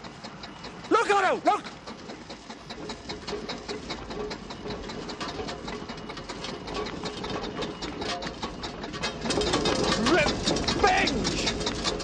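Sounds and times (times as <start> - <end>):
steamroller engine chugging: 0.0 - 12.0.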